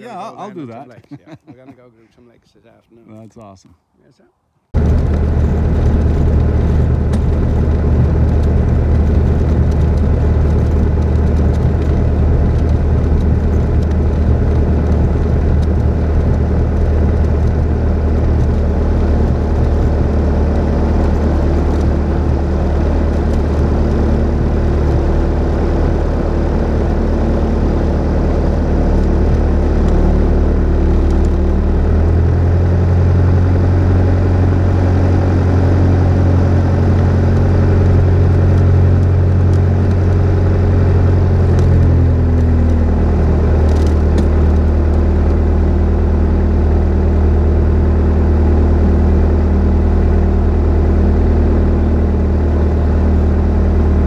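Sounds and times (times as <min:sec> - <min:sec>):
aircraft engine droning: 0:04.8 - 0:54.0.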